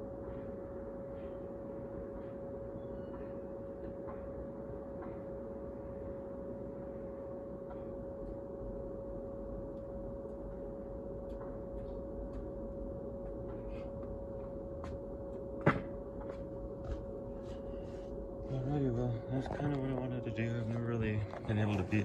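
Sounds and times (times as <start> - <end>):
dryer exhaust humming: 0.0 - 22.0.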